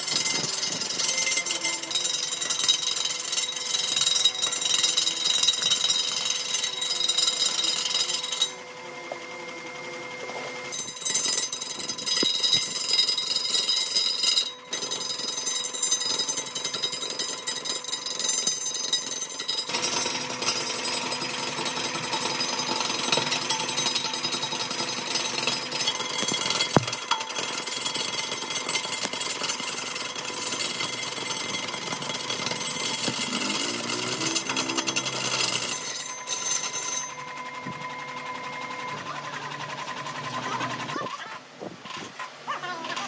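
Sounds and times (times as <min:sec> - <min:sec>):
power tool rattling: 0:00.0 - 0:08.8, 0:09.8 - 0:43.0.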